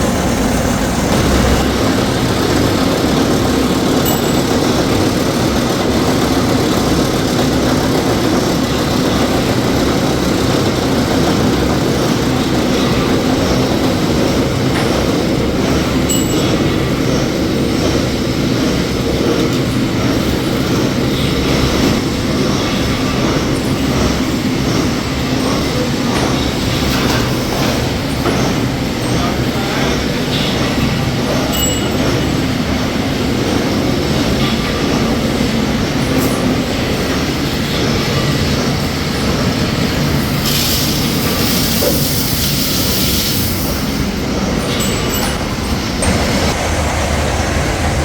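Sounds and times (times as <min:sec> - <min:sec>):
workshop machinery running: 0:00.0 - 0:48.0.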